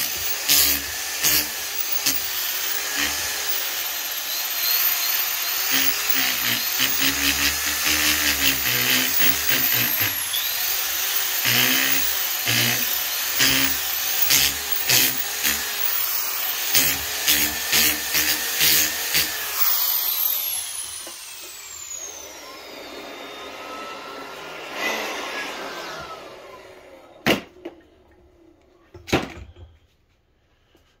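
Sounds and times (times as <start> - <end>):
orbital sander on wood: 0.0 - 26.4
sander spinning down: 0.0 - 28.1.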